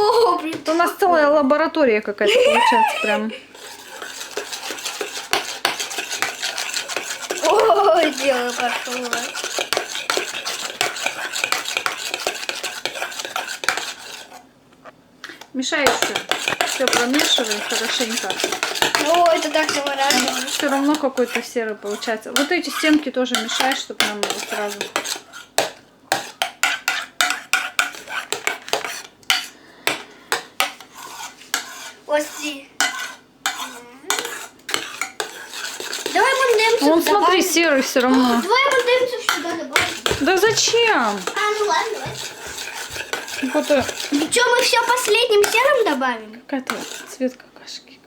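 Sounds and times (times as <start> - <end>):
spoon clinking and scraping bowl: 3.6 - 14.4, 15.8 - 46.0, 46.7 - 47.2.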